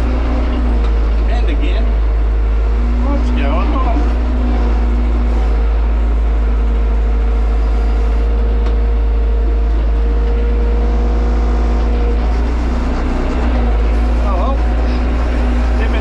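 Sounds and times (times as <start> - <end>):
thin steady whine: 0.0 - 16.0
tractor diesel engine running: 0.0 - 16.0.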